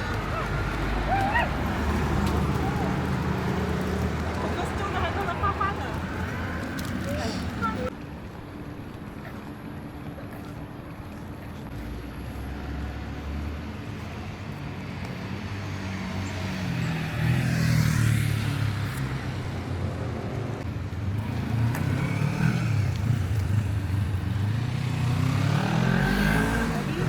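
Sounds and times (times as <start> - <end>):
vehicles passing: 0.0 - 27.0.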